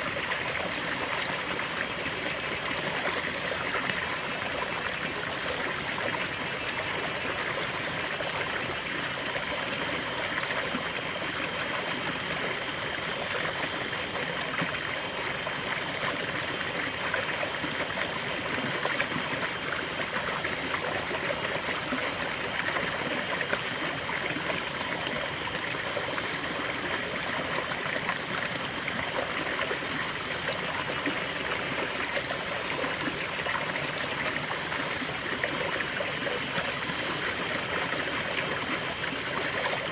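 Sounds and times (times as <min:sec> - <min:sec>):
waterfall and stream flowing: 0:00.0 - 0:39.9.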